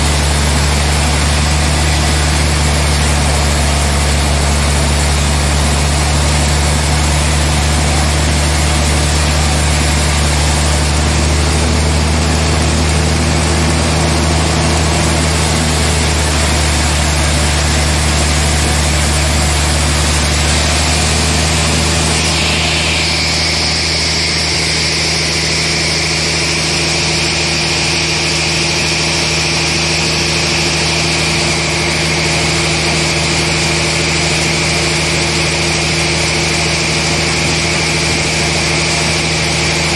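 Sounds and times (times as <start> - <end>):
band sawmill humming: 0.0 - 39.9.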